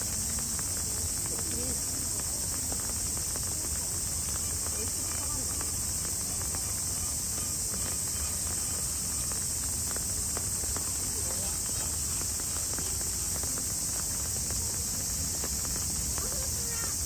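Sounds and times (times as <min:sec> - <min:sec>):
rain drips ticking: 0:00.0 - 0:17.0
steady high hiss: 0:00.0 - 0:17.0.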